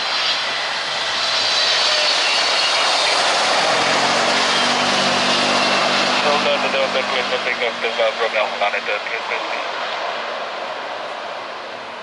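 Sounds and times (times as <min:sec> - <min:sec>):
high jet whine: 0:00.0 - 0:12.0
jet engines landing: 0:00.0 - 0:12.0.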